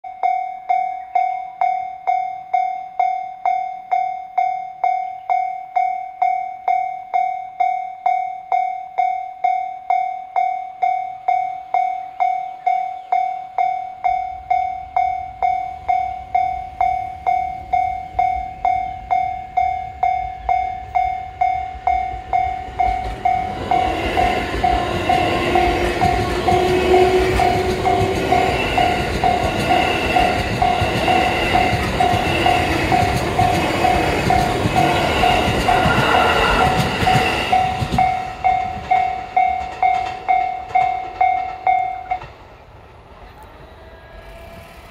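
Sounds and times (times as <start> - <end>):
level crossing bell ringing: 0.1 - 42.3
electric train running past: 9.0 - 44.9.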